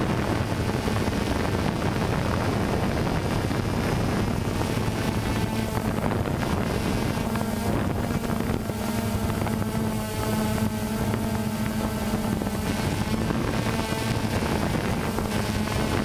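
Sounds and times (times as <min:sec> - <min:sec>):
drone propellers buzzing: 0:00.0 - 0:16.0
wind noise on microphone: 0:00.0 - 0:16.0.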